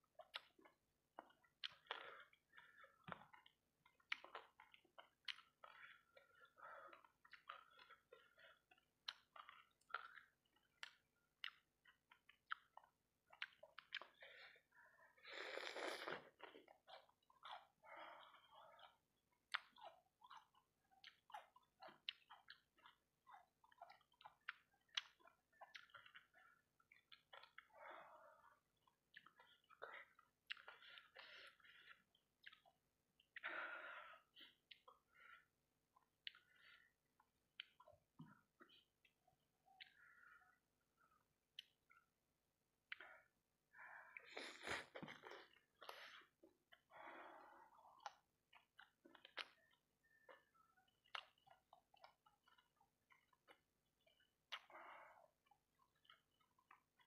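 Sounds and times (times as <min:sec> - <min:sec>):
chewing mouth sounds: 0:00.1 - 0:14.4, 0:15.3 - 0:27.8, 0:28.4 - 0:33.5, 0:35.9 - 0:42.1, 0:47.8 - 0:57.0.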